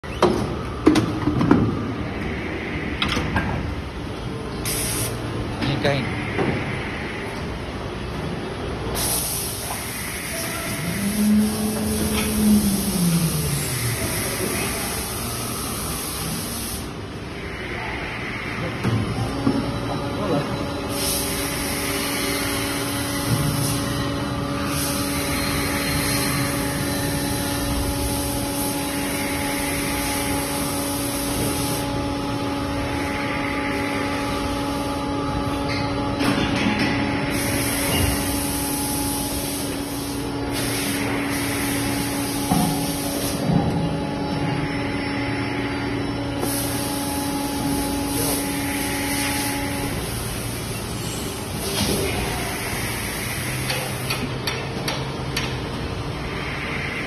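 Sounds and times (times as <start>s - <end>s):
machine hum with hiss: 0.0s - 57.0s.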